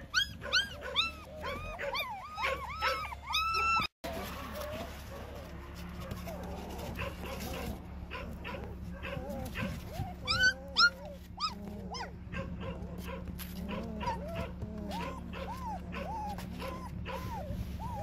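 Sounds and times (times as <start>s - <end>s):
puppies squealing and whimpering: 0.0s - 5.1s, 6.0s - 18.0s.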